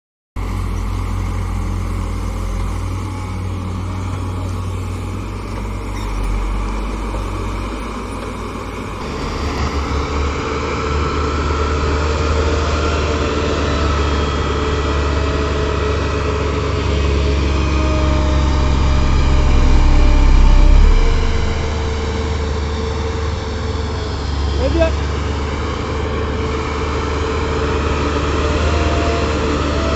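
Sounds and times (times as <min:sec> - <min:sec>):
road roller diesel engine: 0:00.4 - 0:29.9.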